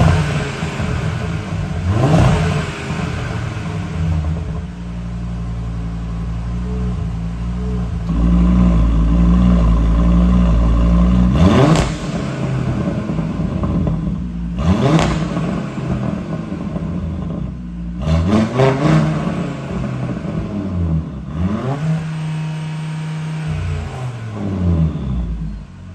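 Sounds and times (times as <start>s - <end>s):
car engine idling and revving: 0.0s - 25.9s.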